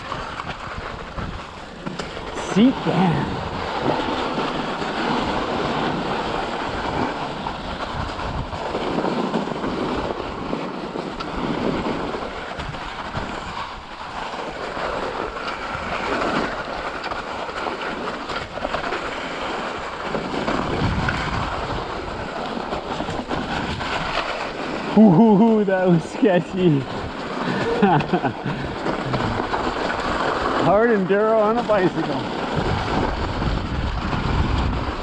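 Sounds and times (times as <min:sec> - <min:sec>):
bike tyres on rough trail: 0:00.0 - 0:35.0
wind buffeting microphone: 0:00.0 - 0:35.0.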